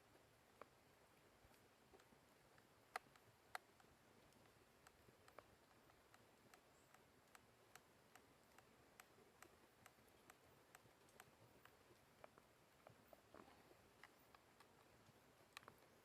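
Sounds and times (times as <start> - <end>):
faint regular ticks: 0.0 - 16.0.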